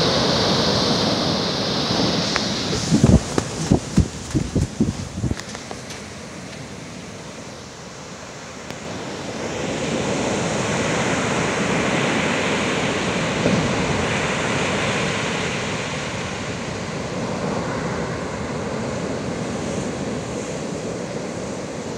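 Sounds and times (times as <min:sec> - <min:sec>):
ocean waves breaking: 0:00.0 - 0:21.9.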